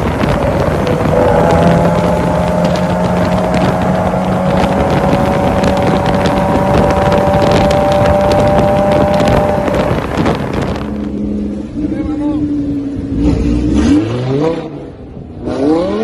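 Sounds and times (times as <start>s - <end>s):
exhaust crackles: 0.0s - 15.5s
car engine at high revs: 0.0s - 16.0s.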